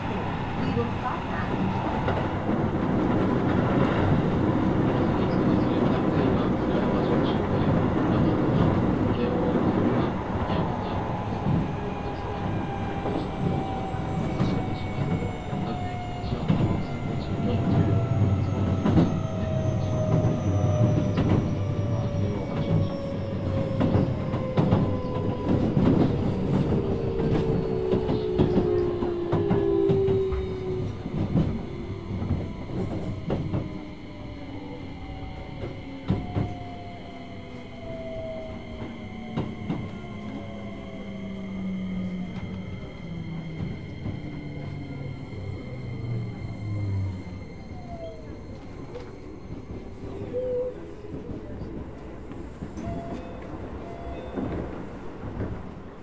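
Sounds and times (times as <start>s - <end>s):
rail joint clicks: 0.0s - 56.0s.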